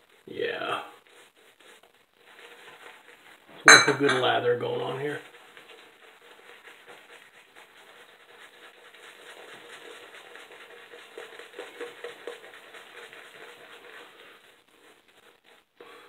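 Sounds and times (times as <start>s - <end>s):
shaving brush swishing lather: 0.0s - 3.6s, 4.2s - 16.0s.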